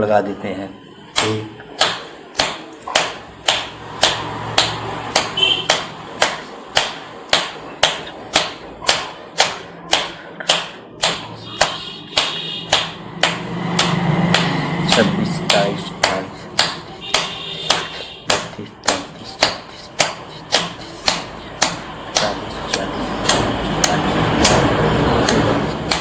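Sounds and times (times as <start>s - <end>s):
bottle knocked hard rhythmically: 1.2s - 26.0s.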